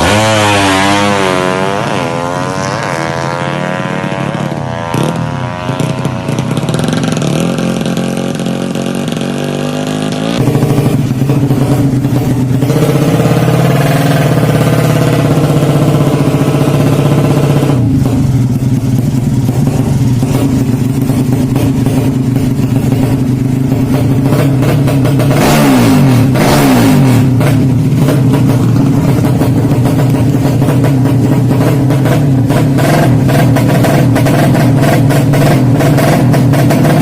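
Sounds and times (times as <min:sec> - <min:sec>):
motorcycle engine running loud: 0:00.0 - 0:37.0.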